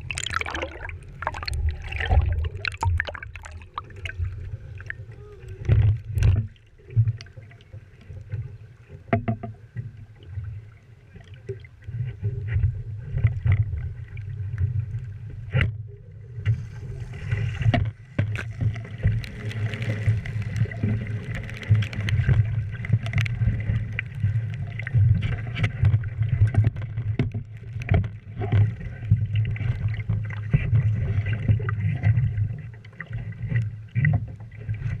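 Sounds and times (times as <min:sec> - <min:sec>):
water rushing against boat: 0:00.0 - 0:35.0.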